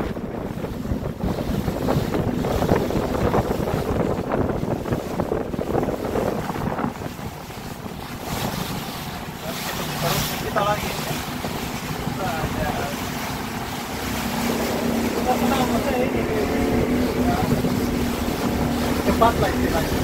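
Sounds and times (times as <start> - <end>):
boat engine rumble: 0.0 - 20.0
water rushing along hull: 0.0 - 20.0
wind buffeting microphone: 0.0 - 20.0.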